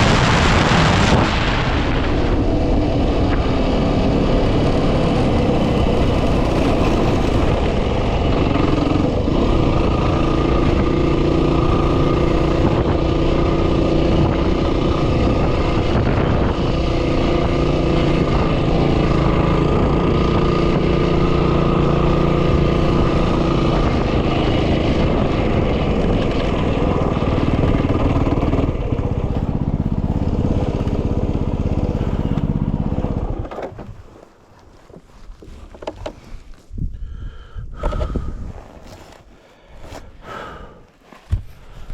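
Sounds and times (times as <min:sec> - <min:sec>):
wind noise on microphone: 0:00.0 - 0:34.2, 0:34.9 - 0:40.6
motorcycle engine cruising: 0:00.0 - 0:41.9.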